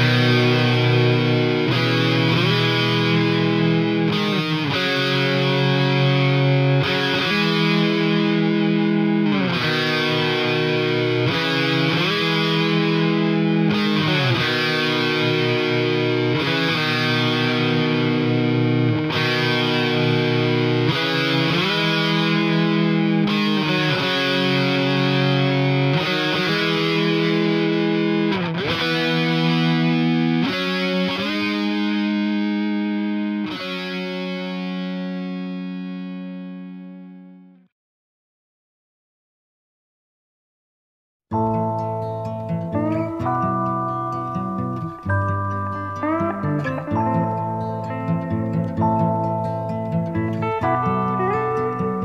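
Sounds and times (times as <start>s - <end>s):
distorted electric guitar: 0.0s - 37.6s, 41.3s - 52.0s.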